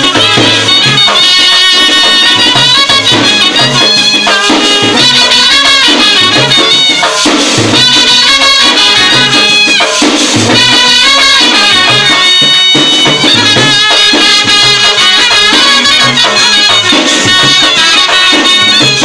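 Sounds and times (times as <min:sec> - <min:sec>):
bass drum: 0:00.0 - 0:19.0
hand cymbals: 0:00.0 - 0:19.0
snare drum: 0:00.0 - 0:19.0
trumpets and euphonium melody: 0:00.0 - 0:19.0.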